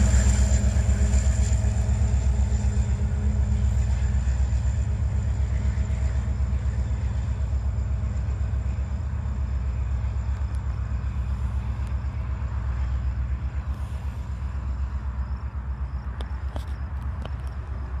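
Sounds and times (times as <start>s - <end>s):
train rolling past: 0.0s - 18.0s.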